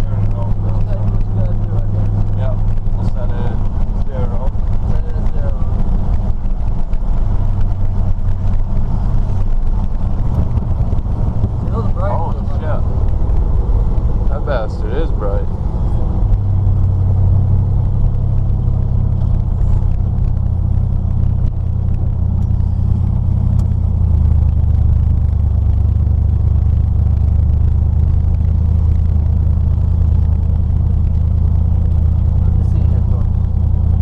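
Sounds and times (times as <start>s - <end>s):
pickup engine drone from cab: 0.0s - 34.0s.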